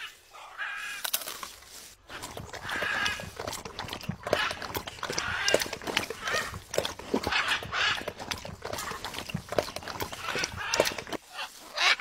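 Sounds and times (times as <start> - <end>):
scratchy crunching: 1.1 - 11.2.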